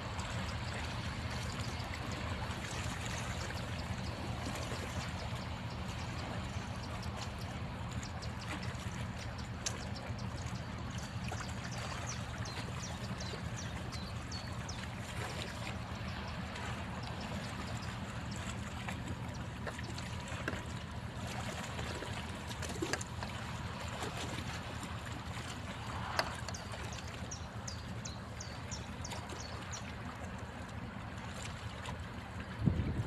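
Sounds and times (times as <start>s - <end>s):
steady low hum: 0.0s - 33.0s
water trickling and splashing: 0.0s - 33.0s.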